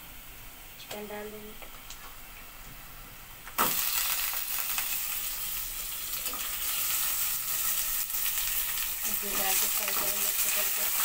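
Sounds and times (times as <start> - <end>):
loud steady sizzling: 0.0 - 11.0.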